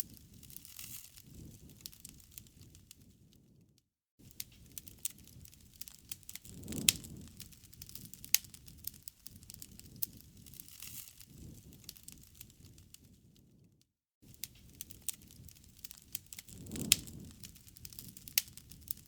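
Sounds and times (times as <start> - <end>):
campfire crackling and popping: 0.0 - 3.5, 4.2 - 13.6, 14.2 - 19.0
low hiss of flames: 0.0 - 3.6, 4.2 - 19.0.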